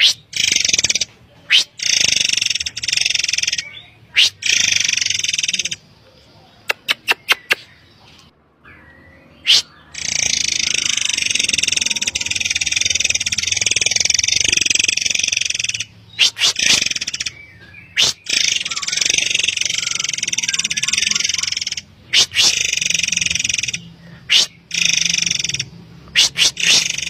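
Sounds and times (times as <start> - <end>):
bird song with sharp notes: 0.0 - 27.0.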